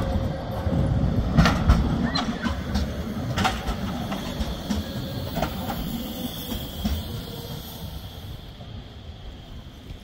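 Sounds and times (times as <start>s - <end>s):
tram rumbling past: 0.0s - 10.0s
wheels clicking on rails: 0.0s - 10.0s.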